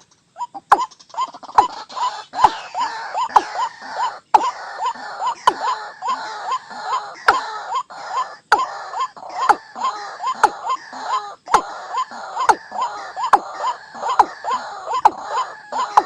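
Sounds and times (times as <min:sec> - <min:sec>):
waterhen calls: 0:00.0 - 0:16.0.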